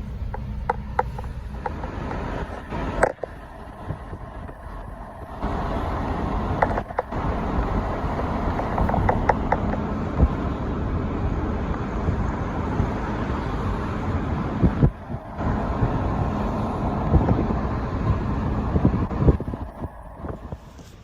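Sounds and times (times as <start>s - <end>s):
road traffic: 0.0s - 21.0s
wind on microphone: 0.0s - 21.0s.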